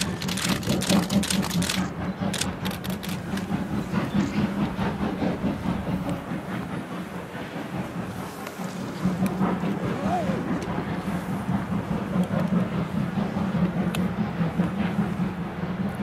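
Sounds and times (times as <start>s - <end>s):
train rumble: 0.0s - 16.0s
wheels clattering over rail joints: 0.0s - 16.0s.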